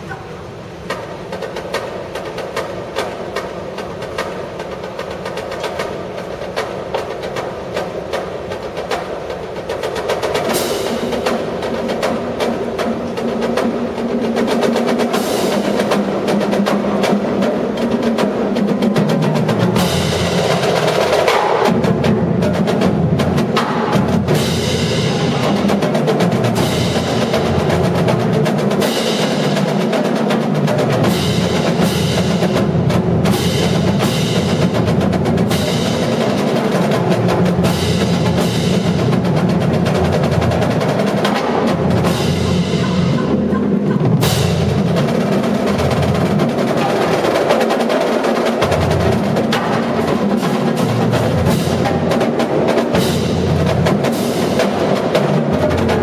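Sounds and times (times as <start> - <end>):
marching drumline playing: 0.0 - 56.0.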